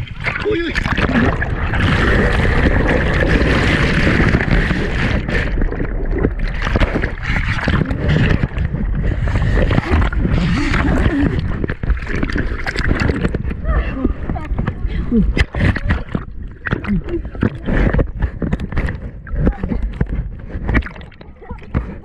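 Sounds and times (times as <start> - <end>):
boat engine and water rushing: 0.0 - 22.0.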